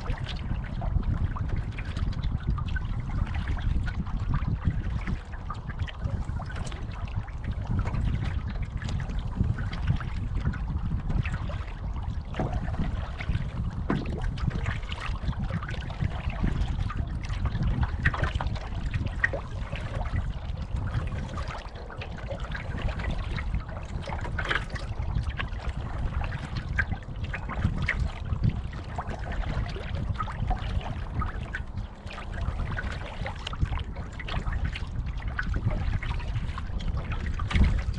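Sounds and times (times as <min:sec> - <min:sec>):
water splashing around canoe: 0:00.0 - 0:37.9
wind rumble on microphone: 0:00.0 - 0:37.9.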